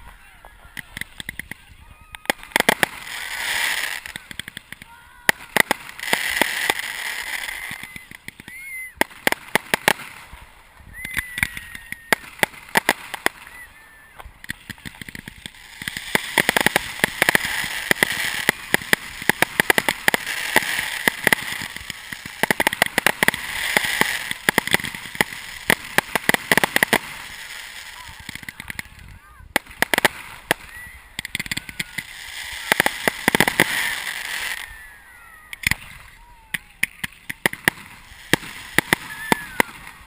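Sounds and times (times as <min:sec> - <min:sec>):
fireworks crackling and bangs: 0:00.0 - 0:40.0
fireworks hiss: 0:00.0 - 0:40.0
short fireworks whistles: 0:00.0 - 0:40.0.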